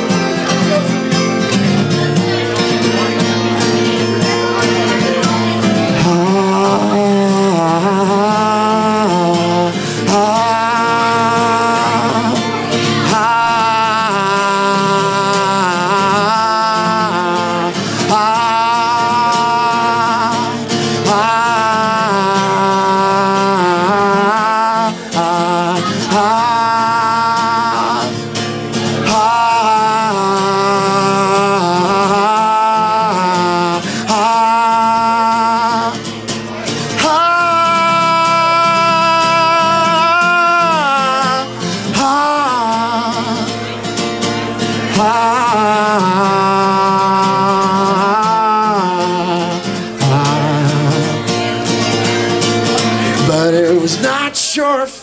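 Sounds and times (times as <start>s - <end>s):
acoustic guitar: 0.0s - 55.0s
man singing with vibrato: 0.0s - 55.0s.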